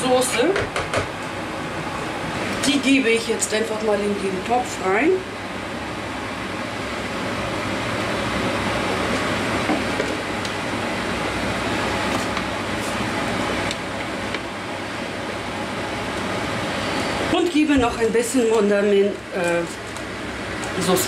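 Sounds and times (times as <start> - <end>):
rushing kitchen noise: 0.0 - 21.0.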